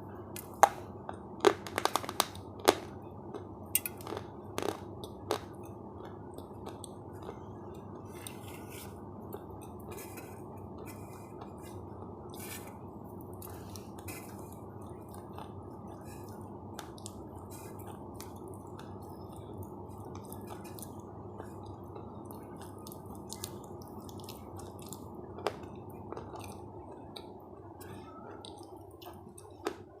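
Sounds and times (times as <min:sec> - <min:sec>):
steady low hiss: 0:00.0 - 0:28.0
soft chewing: 0:03.3 - 0:30.0.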